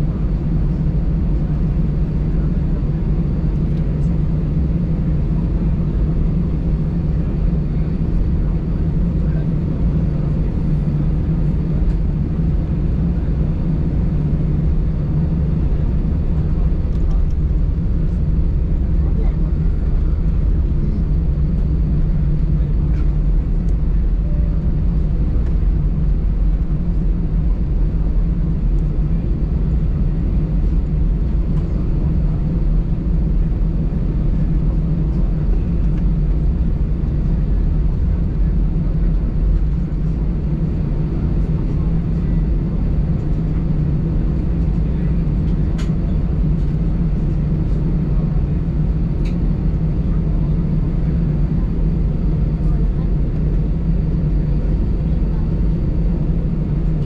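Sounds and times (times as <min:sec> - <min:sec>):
airplane engine hum in cabin: 0:00.0 - 0:57.0.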